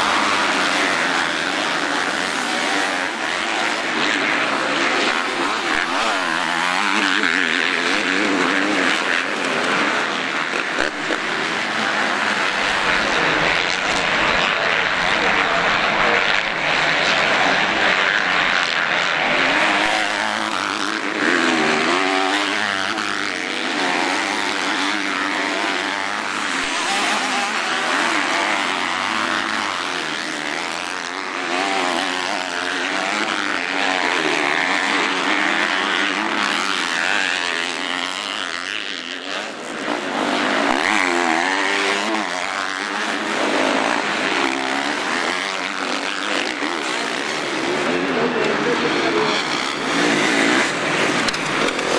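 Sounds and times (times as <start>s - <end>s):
motocross bike engines revving: 0.0s - 51.9s.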